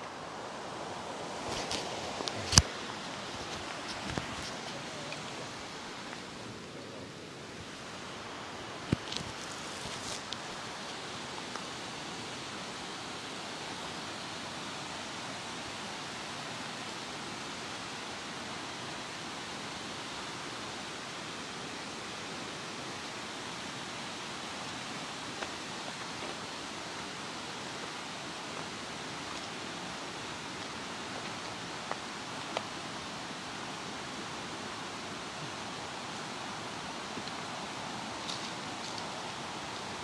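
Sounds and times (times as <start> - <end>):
river rapids rushing: 0.0 - 40.0.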